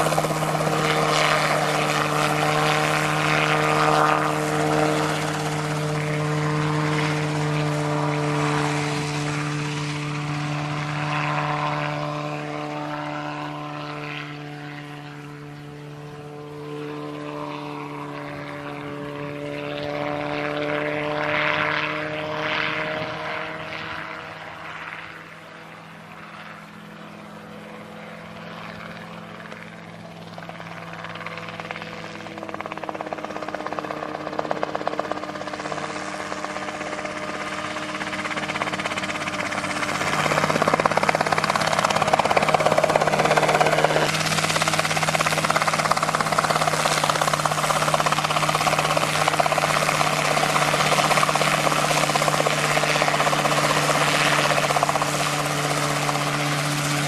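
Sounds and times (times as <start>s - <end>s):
helicopter engine and rotor droning: 0.0s - 57.0s.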